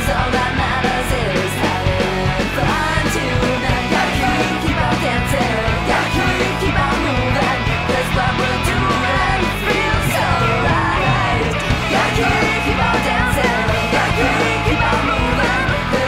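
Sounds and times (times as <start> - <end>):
punk rock band playing: 0.0 - 16.0
woman singing: 0.0 - 16.0.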